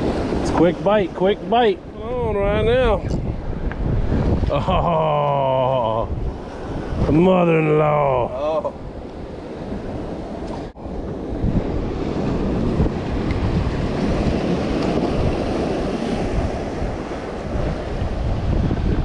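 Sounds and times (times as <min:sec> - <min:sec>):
waves washing: 0:00.0 - 0:19.0
wind buffeting microphone: 0:00.0 - 0:19.0.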